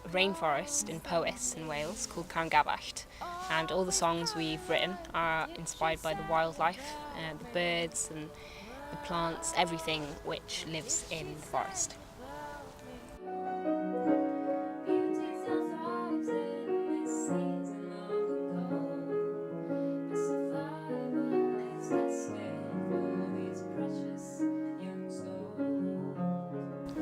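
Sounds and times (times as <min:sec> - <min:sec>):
piano music: 0:00.0 - 0:27.0
woman singing: 0:00.0 - 0:27.0.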